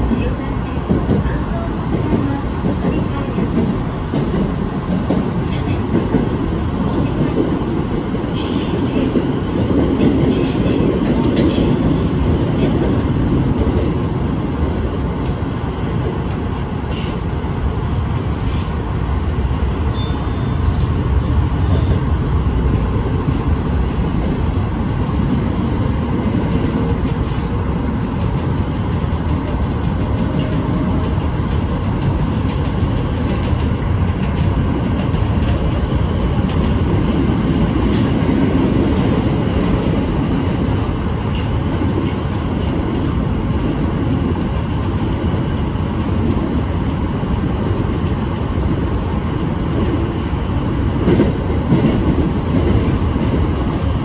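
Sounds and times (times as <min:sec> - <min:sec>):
rail joint clicks: 0:00.0 - 0:54.0
subway train wheels rumbling: 0:00.0 - 0:54.0.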